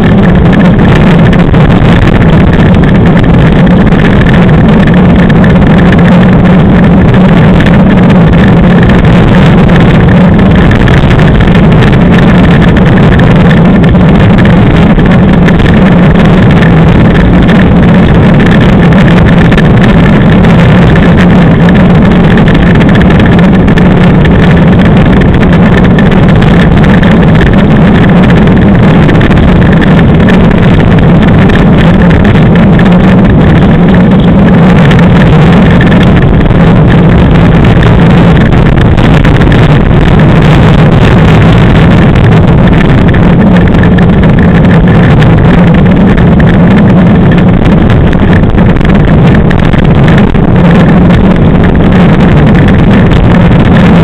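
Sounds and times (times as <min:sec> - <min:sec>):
low drone: 0:00.0 - 0:54.0
wheels rumbling on hard ground: 0:00.0 - 0:54.0
wind buffeting microphone: 0:00.0 - 0:54.0.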